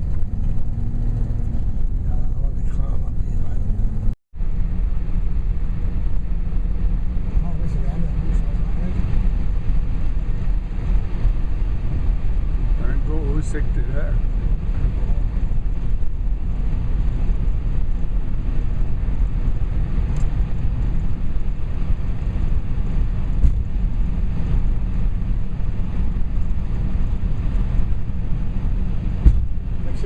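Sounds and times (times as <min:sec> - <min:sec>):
road noise: 0:00.0 - 0:30.0
vehicle running: 0:00.0 - 0:30.0
wind noise: 0:00.0 - 0:30.0.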